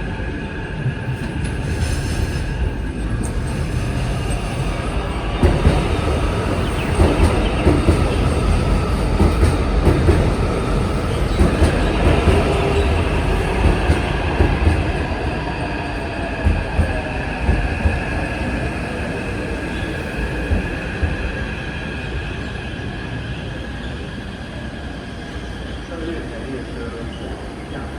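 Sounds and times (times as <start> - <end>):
train rail rumble: 0.0 - 27.9.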